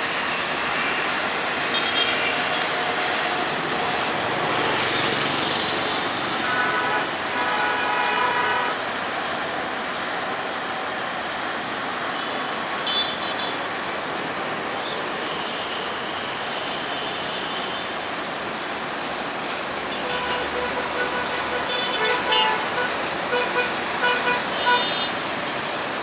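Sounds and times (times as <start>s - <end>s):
train coaches rolling on rails: 0.0s - 26.0s.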